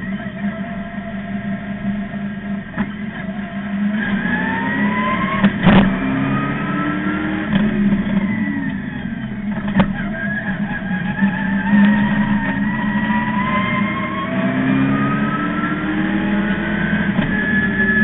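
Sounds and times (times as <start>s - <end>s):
race car engine under load: 0.0s - 18.0s.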